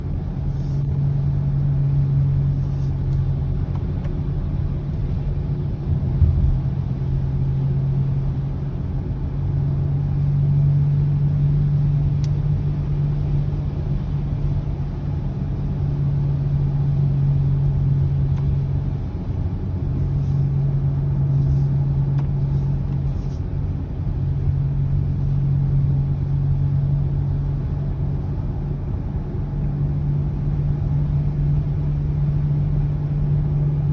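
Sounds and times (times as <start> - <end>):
low humming drone: 0.0 - 33.9
road rumble: 0.0 - 33.9.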